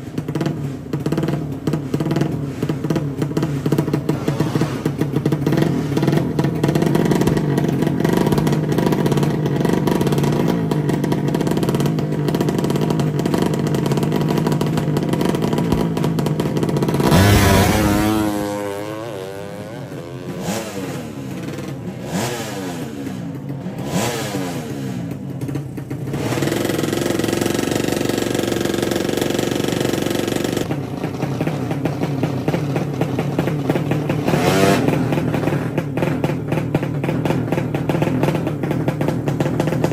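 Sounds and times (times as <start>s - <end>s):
drag bike engine revving: 0.0s - 39.9s
second drag bike engine revving: 0.0s - 39.9s.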